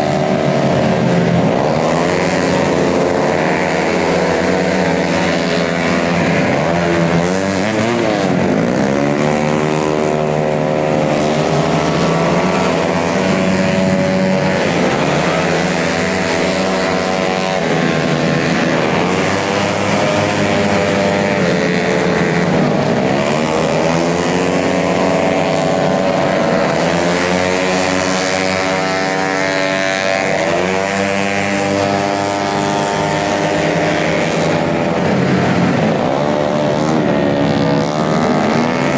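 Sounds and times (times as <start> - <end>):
scooter engines revving: 0.0 - 38.9.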